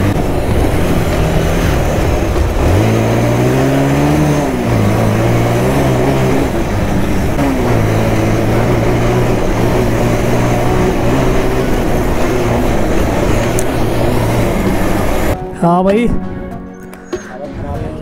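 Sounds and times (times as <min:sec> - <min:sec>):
motorcycle engine: 0:00.0 - 0:15.4
road noise: 0:00.0 - 0:18.0
wind noise: 0:00.0 - 0:18.0.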